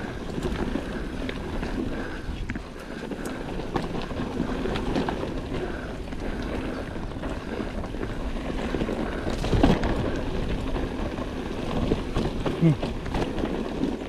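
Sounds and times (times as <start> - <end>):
bike chain and frame rattling: 0.0 - 14.0
bike tyres rolling on dirt: 0.0 - 14.0.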